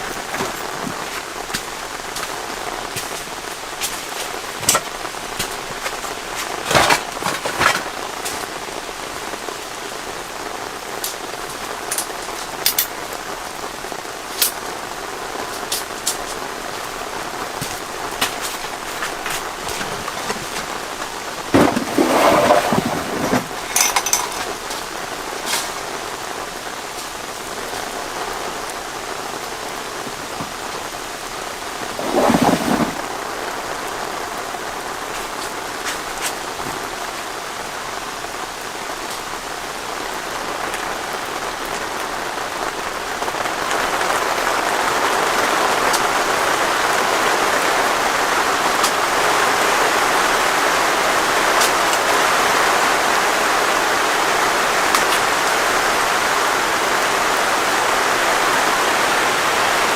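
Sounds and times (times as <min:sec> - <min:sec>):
raindrops striking close by: 0:00.0 - 0:59.9
steady rain: 0:00.0 - 0:59.9.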